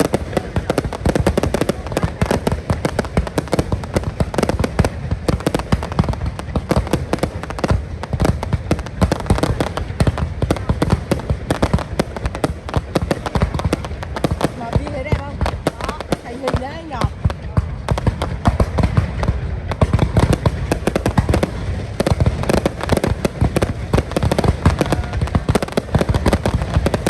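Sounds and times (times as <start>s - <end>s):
deep firework booms: 0.0s - 27.0s
firework bangs and crackling: 0.0s - 27.0s.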